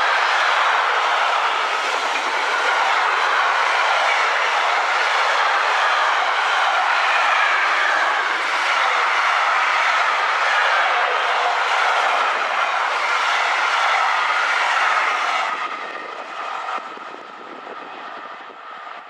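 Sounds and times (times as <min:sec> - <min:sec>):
steel wheels rolling on rails: 0:00.0 - 0:19.0.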